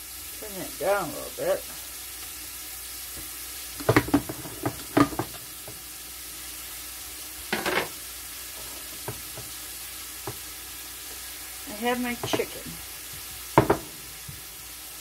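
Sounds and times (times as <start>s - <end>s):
onion sizzling in a pan: 0.0s - 15.0s.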